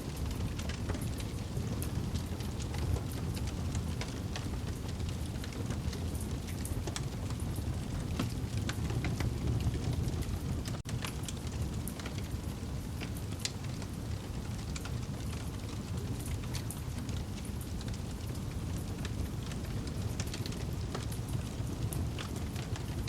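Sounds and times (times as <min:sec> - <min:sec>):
campfire flames rumbling: 0:00.0 - 0:23.0
wood crackling and popping: 0:00.0 - 0:23.0.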